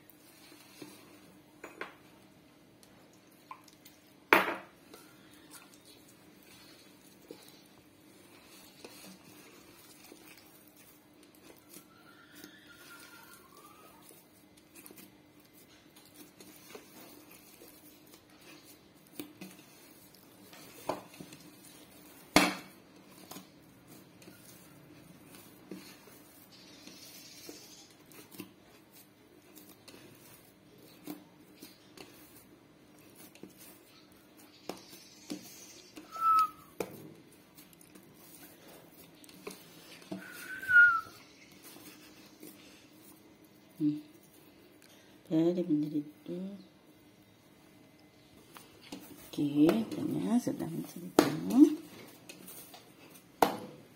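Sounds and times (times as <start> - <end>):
hands kneading dough: 0.0 - 53.9.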